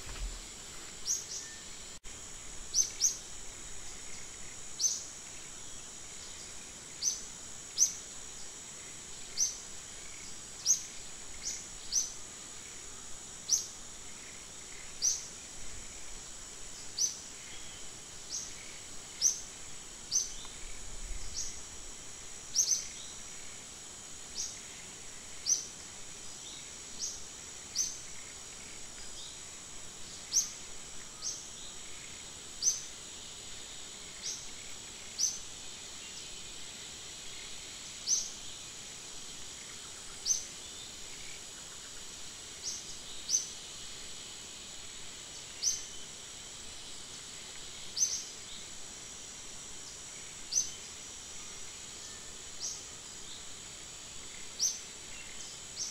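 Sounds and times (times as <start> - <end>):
high insect drone: 0.0 - 55.9.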